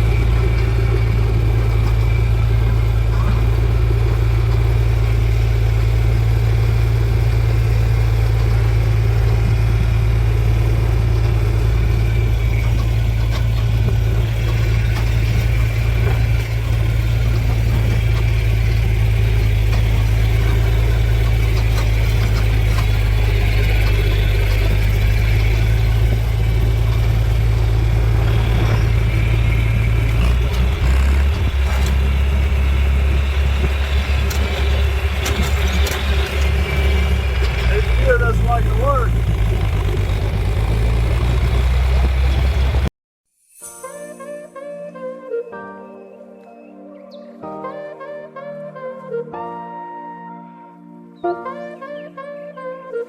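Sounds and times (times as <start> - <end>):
vehicle engine humming: 0.0 - 42.9.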